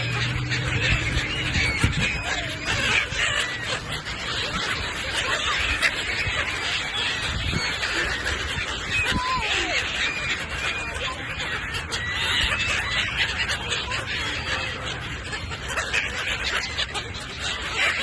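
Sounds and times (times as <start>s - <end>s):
gulls calling: 0.0s - 18.0s.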